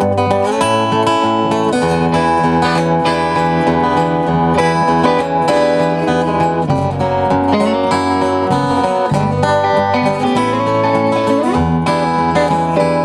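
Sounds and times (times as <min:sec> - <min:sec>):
country folk band playing: 0:00.0 - 0:13.0
strummed acoustic guitar: 0:00.0 - 0:13.0.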